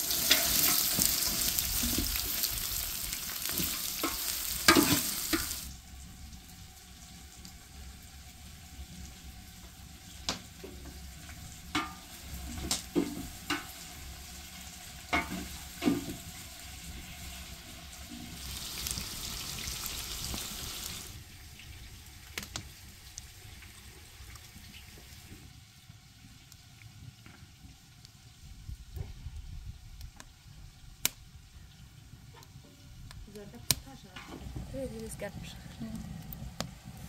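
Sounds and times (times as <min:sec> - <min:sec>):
pot sizzling: 0:00.0 - 0:28.9, 0:31.2 - 0:37.0.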